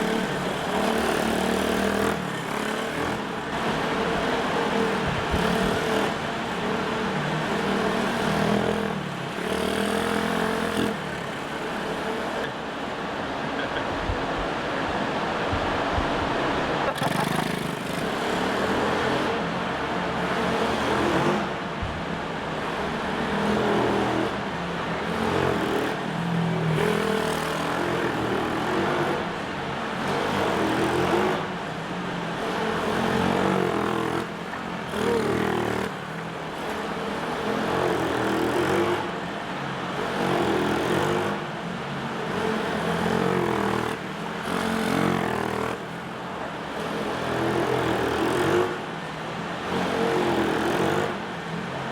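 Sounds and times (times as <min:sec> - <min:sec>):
minibike engine revving: 0:00.0 - 0:51.9.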